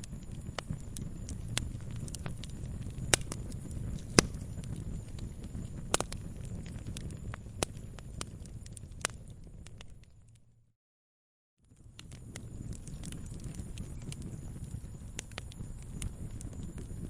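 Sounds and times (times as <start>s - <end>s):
fire crackling in fireplace: 0.0s - 10.6s, 11.6s - 17.0s.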